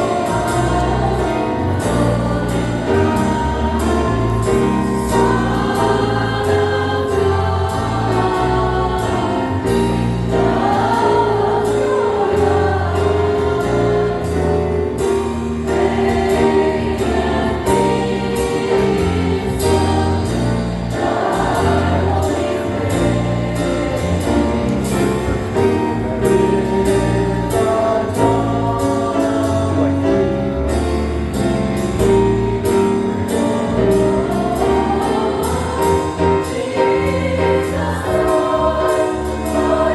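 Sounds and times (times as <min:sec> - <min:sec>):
bass line: 0:00.0 - 0:39.9
choir singing: 0:00.0 - 0:39.9.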